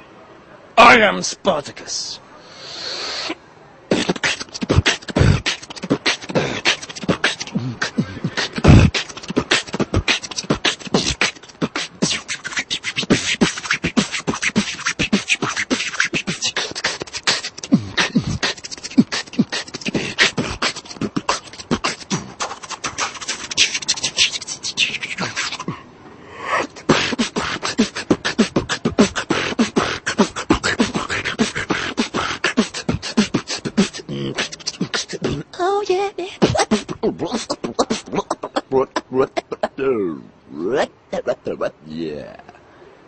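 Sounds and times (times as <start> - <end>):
fast vocal beatboxing: 2.7 - 25.8, 26.5 - 42.6.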